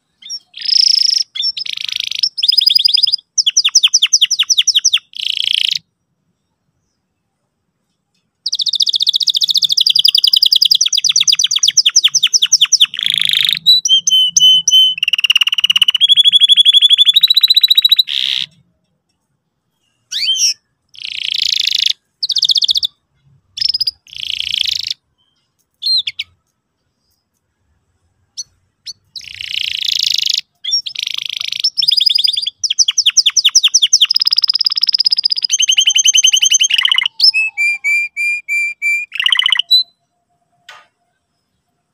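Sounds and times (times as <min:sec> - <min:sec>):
canary singing trills: 0:00.0 - 0:05.9, 0:08.4 - 0:18.7, 0:19.7 - 0:27.4, 0:28.2 - 0:40.6.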